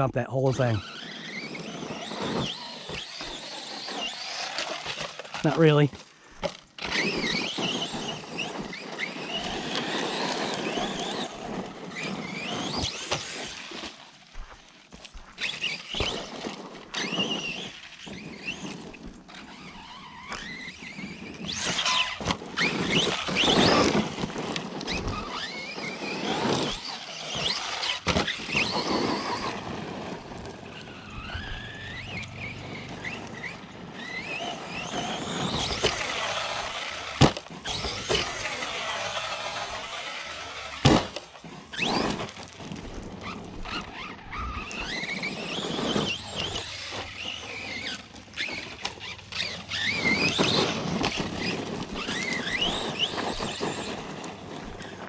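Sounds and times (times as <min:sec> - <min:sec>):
electric motor whining: 0:00.8 - 0:14.5, 0:15.1 - 0:55.0.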